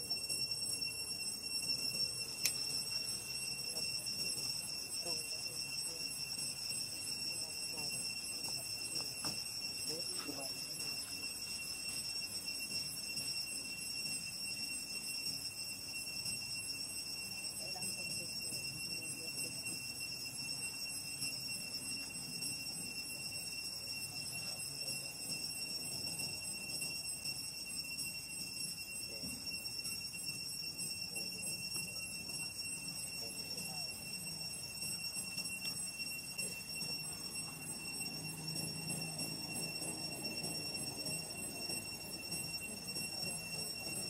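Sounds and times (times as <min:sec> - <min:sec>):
high-pitched whine: 0:00.0 - 0:44.0.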